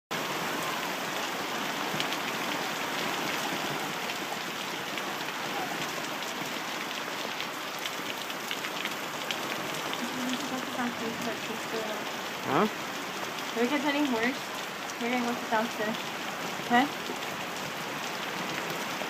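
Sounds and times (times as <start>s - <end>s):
heavy rain pouring: 0.1s - 19.0s.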